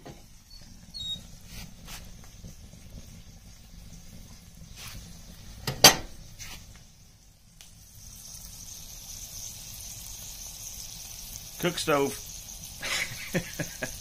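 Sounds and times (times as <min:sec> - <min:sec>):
sausages sizzling in skillet: 0:00.0 - 0:14.0
wood fire crackling: 0:00.0 - 0:14.0.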